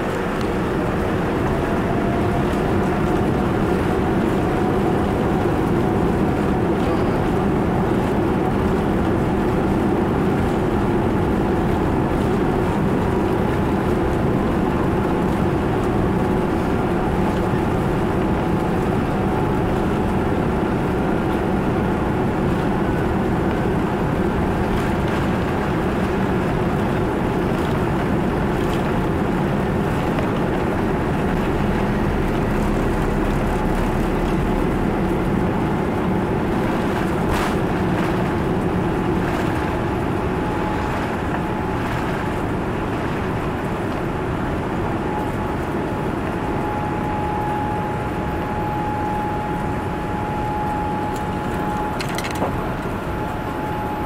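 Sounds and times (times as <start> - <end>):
faint whine tones: 0.0 - 54.0
jet engines at high thrust: 0.0 - 54.0
rushing air and rumble: 0.0 - 54.0.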